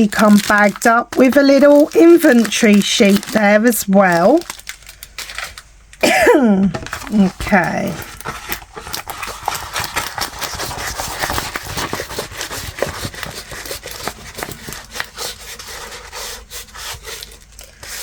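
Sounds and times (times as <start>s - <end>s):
packaging rustling and crinkling: 0.0s - 18.0s.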